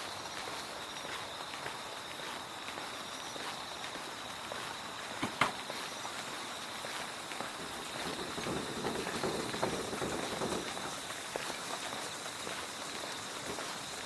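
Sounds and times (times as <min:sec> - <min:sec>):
crackling rain-like rush: 0:00.0 - 0:14.0
insects trilling: 0:00.0 - 0:14.0.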